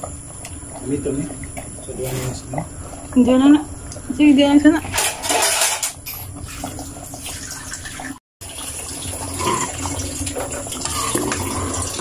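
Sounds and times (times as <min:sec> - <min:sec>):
stew bubbling in a pot: 0:00.0 - 0:05.0, 0:06.2 - 0:12.0.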